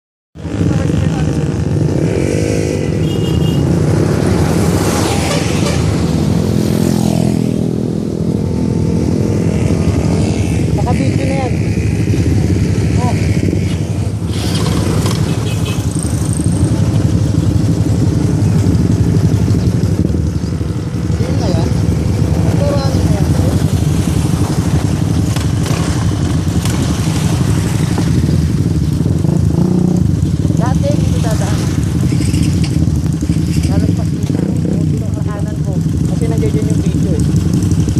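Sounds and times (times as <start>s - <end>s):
road noise: 0.4s - 37.9s
vehicle engine running: 3.0s - 37.9s.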